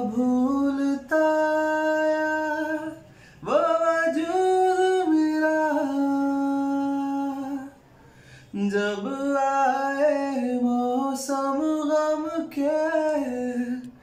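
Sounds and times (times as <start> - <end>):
man singing wordlessly: 0.0 - 7.9, 8.5 - 14.0.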